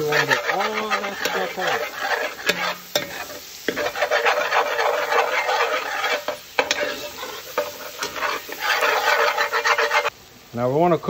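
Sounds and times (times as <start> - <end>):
metal spoon scraping a pot: 0.0 - 10.1
vegetables sizzling: 0.0 - 11.0.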